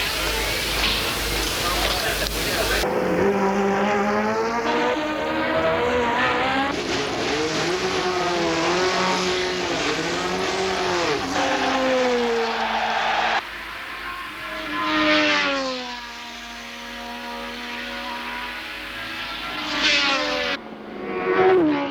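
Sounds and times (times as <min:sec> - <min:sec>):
race car engine revving: 0:00.0 - 0:21.9.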